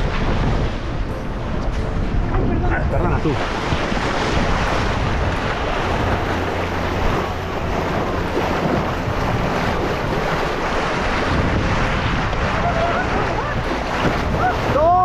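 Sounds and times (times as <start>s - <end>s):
sea water rushing: 0.0s - 15.0s
wind buffeting microphone: 0.0s - 15.0s.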